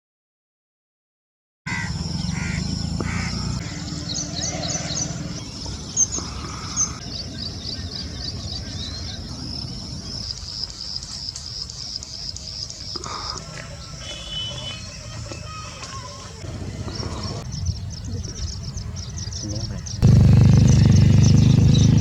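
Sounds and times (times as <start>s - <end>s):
small birds chirping: 1.7s - 22.0s.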